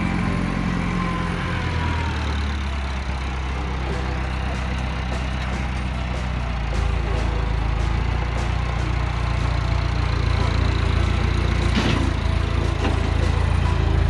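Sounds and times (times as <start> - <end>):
tractor engine driving past: 0.0 - 14.0.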